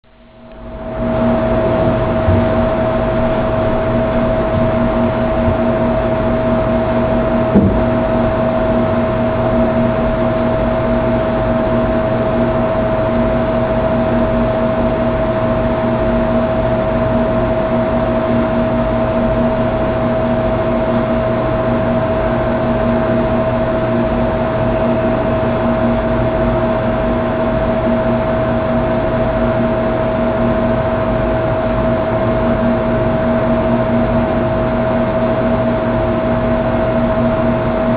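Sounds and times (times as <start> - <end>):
steady hum over hiss: 0.1 - 37.9.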